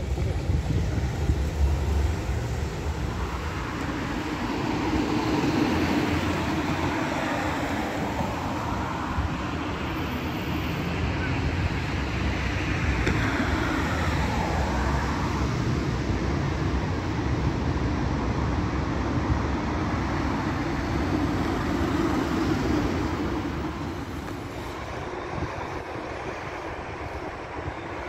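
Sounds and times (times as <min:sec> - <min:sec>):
tram passing rumble: 0:00.0 - 0:28.0.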